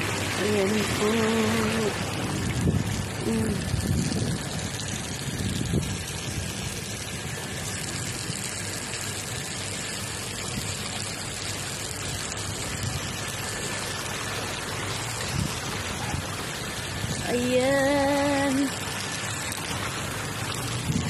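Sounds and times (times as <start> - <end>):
sprinklers spraying water: 0.0 - 21.0.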